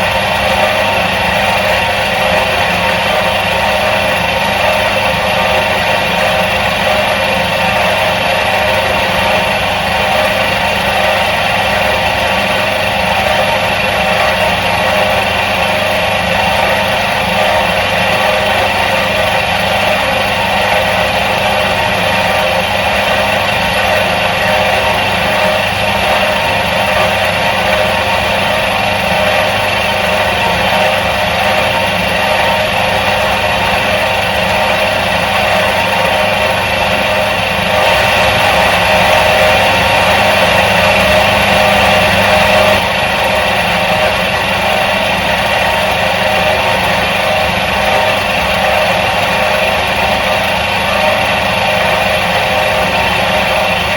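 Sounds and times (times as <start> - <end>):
washing machine motor humming: 0.0 - 53.9.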